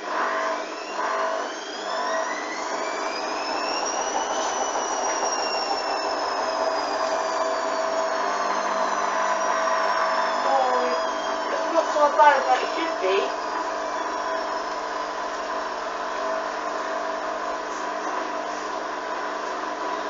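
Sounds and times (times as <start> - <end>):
washing machine motor whining: 0.0 - 20.0.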